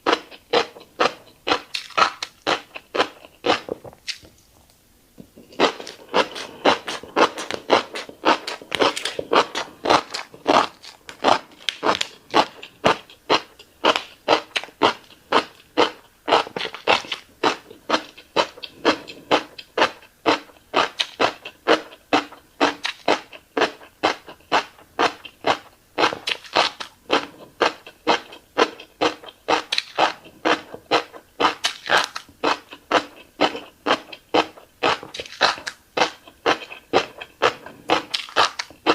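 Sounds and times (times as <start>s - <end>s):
wet chewing clicks and smacks: 0.1s - 4.4s, 5.6s - 38.9s.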